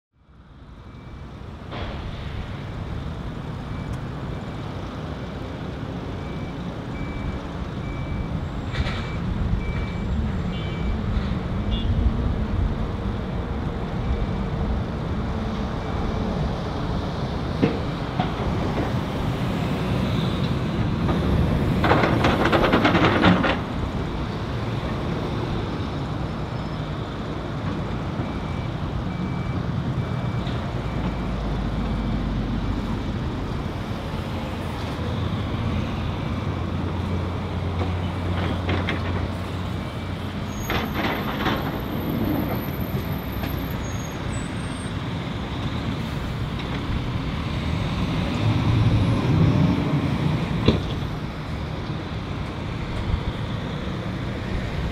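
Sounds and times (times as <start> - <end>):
diesel engines running: 0.2 - 54.9.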